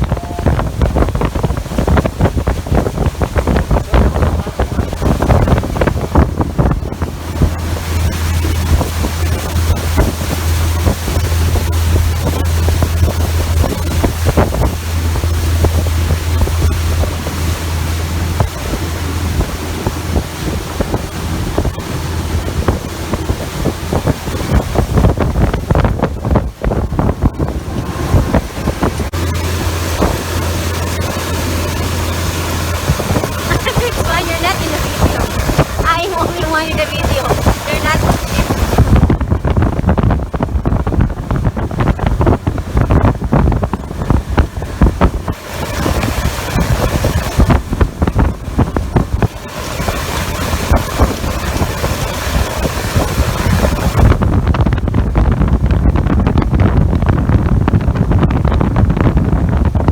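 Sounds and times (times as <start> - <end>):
low engine drone: 0.0 - 59.9
water rushing past hull: 0.0 - 59.9
wind buffeting microphone: 0.0 - 59.9.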